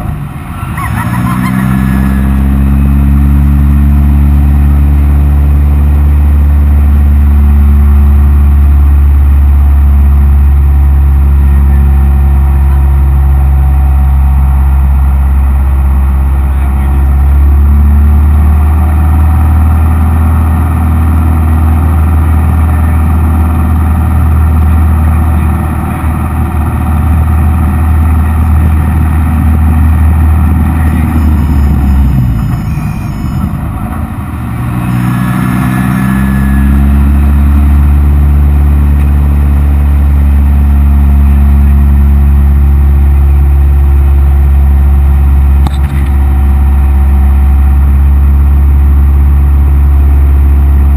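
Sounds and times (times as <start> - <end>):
airplane engine and propeller drone: 0.0 - 50.9.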